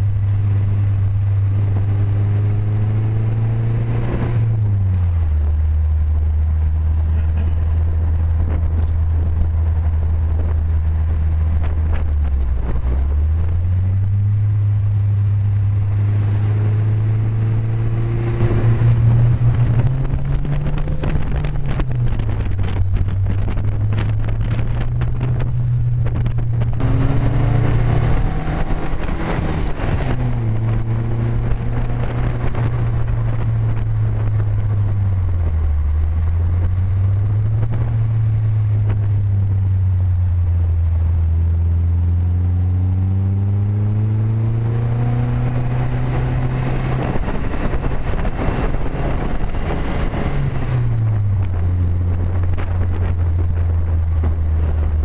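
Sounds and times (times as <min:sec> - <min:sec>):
car engine running: 0:00.0 - 0:55.0
gusty wind noise: 0:00.0 - 0:55.0.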